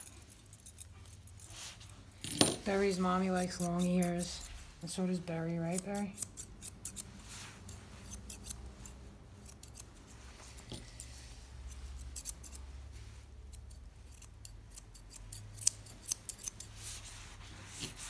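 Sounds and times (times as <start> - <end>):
scissors snipping hair: 0.0 - 1.6, 2.6 - 12.7, 13.4 - 17.0.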